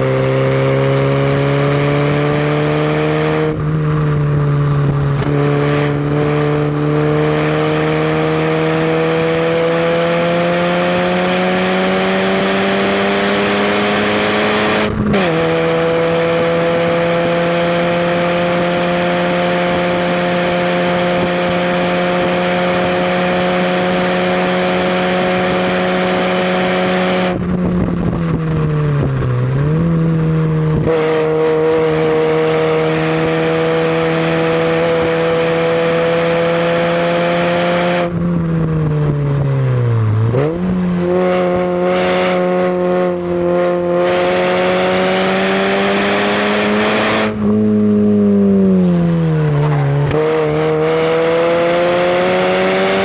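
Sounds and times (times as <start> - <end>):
car engine revving under load: 0.0 - 53.0.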